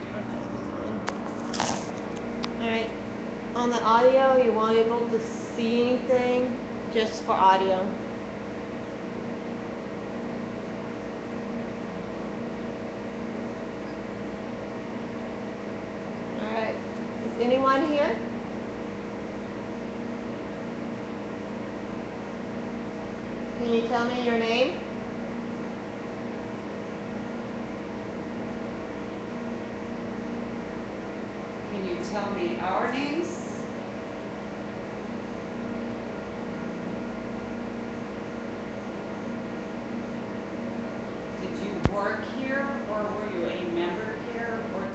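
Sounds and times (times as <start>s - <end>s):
mechanical hum and hiss: 0.0s - 44.9s.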